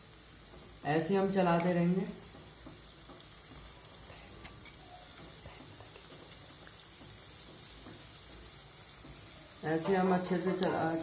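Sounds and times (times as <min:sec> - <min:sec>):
hot oil bubbling and crackling: 0:00.0 - 0:11.0.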